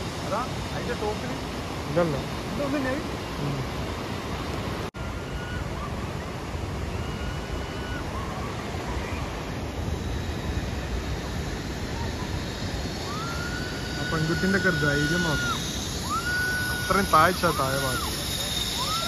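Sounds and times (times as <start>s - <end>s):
faint thin whine: 0.0s - 19.0s.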